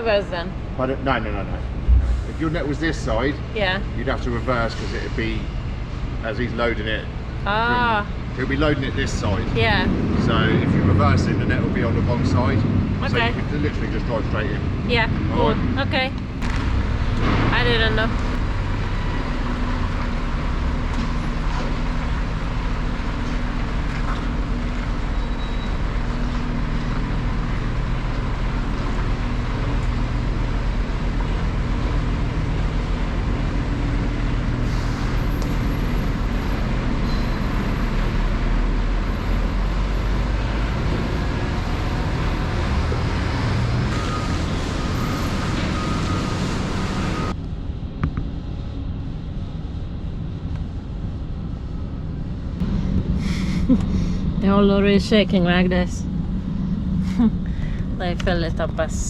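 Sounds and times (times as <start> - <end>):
diesel truck engine droning: 0.0 - 59.0
road noise: 0.0 - 59.0.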